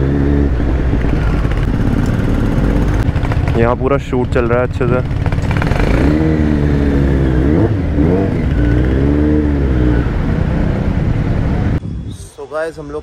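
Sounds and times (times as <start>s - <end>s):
motorcycle exhaust rumble: 0.0s - 11.8s.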